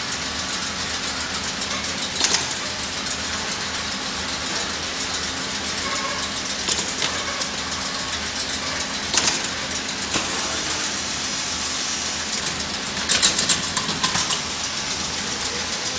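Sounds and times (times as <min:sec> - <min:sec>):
machinery mechanical hum and hiss: 0:00.0 - 0:15.9
sharp clacks of gripper: 0:00.0 - 0:15.9.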